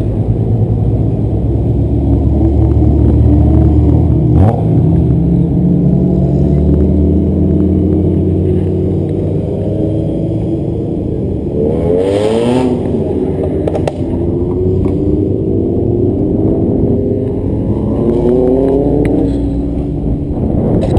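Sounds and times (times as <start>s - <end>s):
car engine revving: 0.0s - 20.9s
cars driving by: 0.0s - 20.9s.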